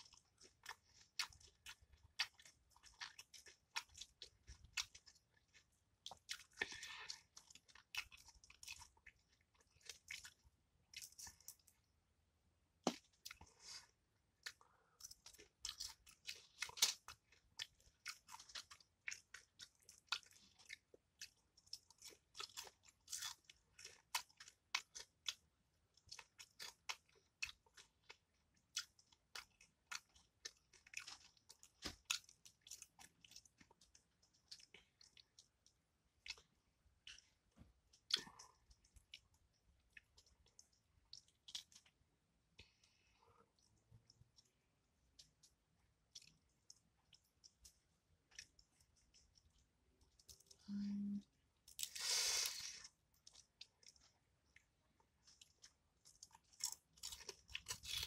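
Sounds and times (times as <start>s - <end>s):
chewing and crunching: 0.0s - 11.9s, 12.8s - 50.6s, 52.8s - 58.0s.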